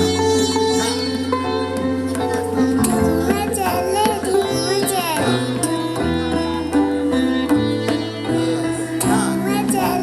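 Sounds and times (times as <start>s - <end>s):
sitar plucked notes: 0.0s - 10.0s.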